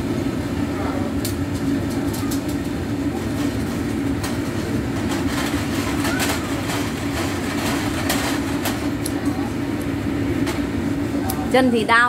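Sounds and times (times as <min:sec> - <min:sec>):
range hood fan humming: 0:00.0 - 0:12.0.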